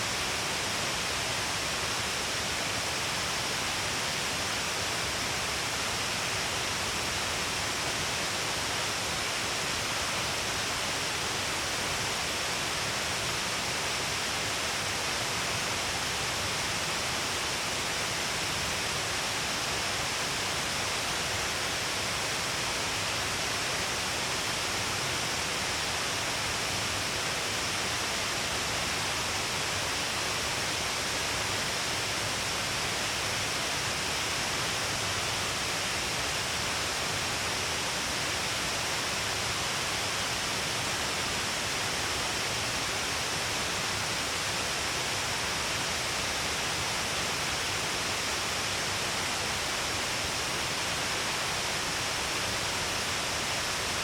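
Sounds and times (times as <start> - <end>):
waterfall rushing hiss: 0.0 - 54.0.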